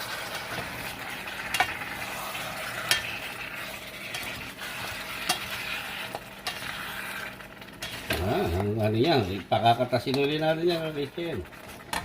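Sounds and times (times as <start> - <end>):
pork sizzling in a wok: 0.0 - 12.0.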